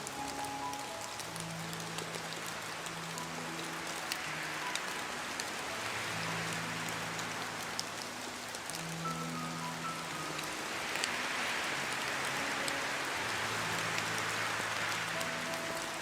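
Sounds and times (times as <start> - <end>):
rain drop ticks: 0.0 - 16.0
steady rain hiss: 0.0 - 16.0.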